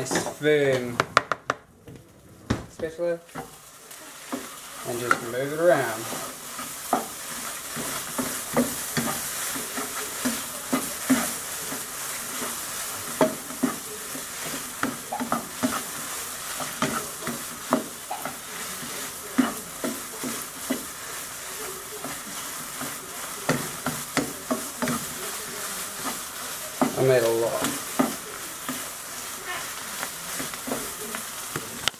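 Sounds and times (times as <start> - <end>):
food sizzling in a pan: 2.8 - 31.9
spatula scraping and knocking pan: 2.8 - 31.9.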